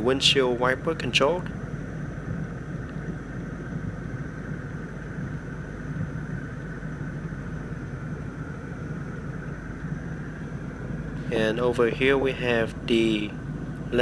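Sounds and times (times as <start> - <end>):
car engine idling in cabin: 0.0 - 14.0.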